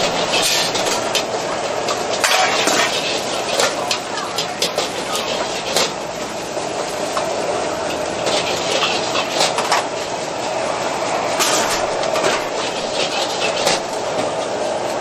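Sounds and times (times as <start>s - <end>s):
food frying: 0.0s - 15.0s
gas burner roar: 0.0s - 15.0s.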